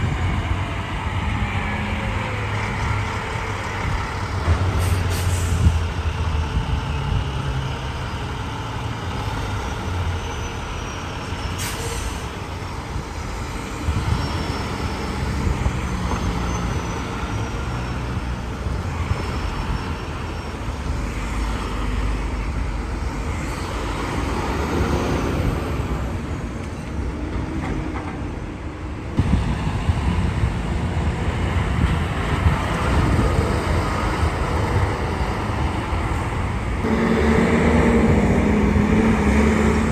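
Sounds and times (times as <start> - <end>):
trucks passing: 0.0 - 39.9.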